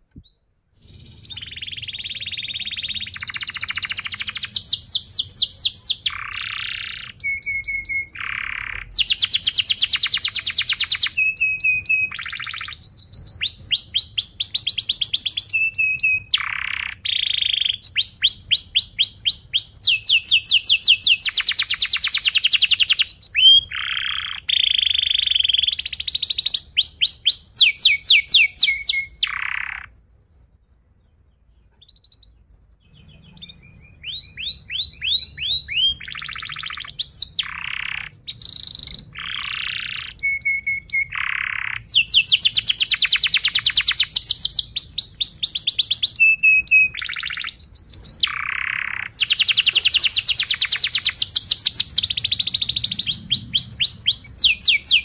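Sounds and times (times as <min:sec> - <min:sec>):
canary singing trills and chirps: 0:00.0 - 0:55.0.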